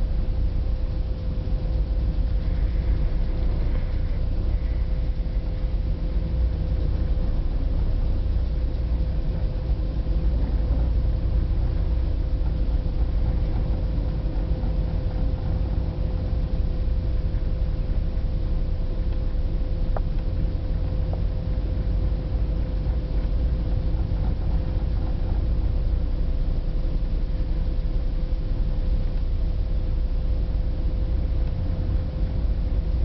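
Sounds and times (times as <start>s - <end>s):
machinery hum: 0.0s - 33.0s
ship engine deep rumble: 0.0s - 33.0s.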